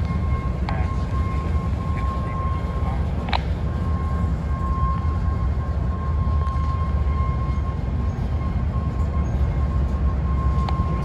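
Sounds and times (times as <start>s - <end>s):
thin steady whine: 0.0s - 11.0s
train wheels rumbling on rail: 0.0s - 11.0s.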